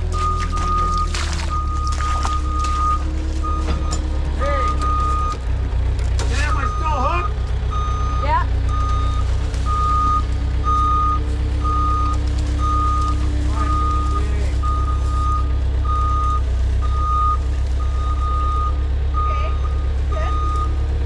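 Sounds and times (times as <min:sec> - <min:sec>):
reversing alarm beeping: 0:00.0 - 0:05.4, 0:06.3 - 0:20.9
engine rumbling: 0:00.0 - 0:21.0.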